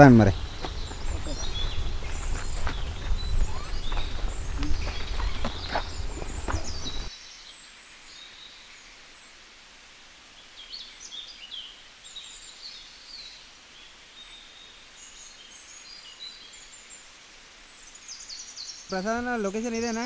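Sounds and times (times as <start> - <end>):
small birds chirping: 0.0 - 9.4, 10.2 - 20.0
faint outdoor hiss: 0.0 - 20.0.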